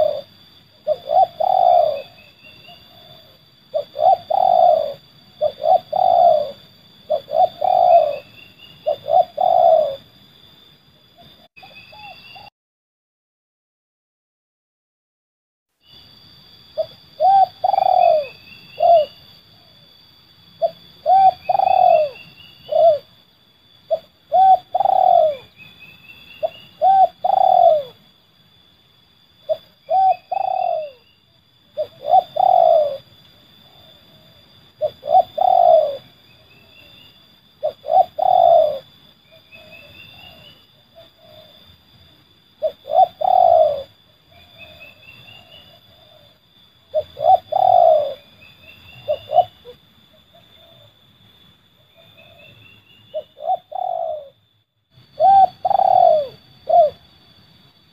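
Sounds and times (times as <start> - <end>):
dove cooing: 0.0 - 10.2, 11.2 - 12.5, 16.8 - 19.9, 20.6 - 23.2, 23.8 - 28.1, 29.4 - 37.0, 37.6 - 41.8, 42.5 - 51.0, 51.8 - 54.4, 55.0 - 57.2
steady high-pitched whine: 0.0 - 12.5, 15.8 - 57.9.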